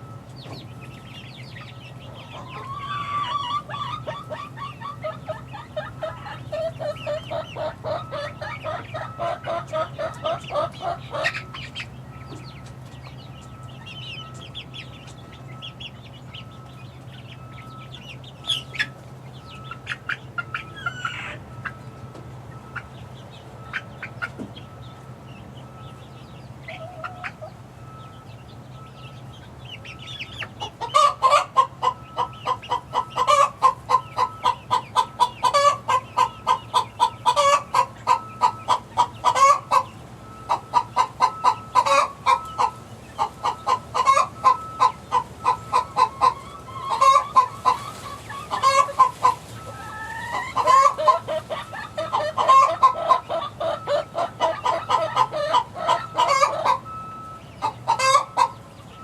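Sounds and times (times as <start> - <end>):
chicks cheeping: 0.0 - 59.0
high chick chirps: 0.0 - 59.0.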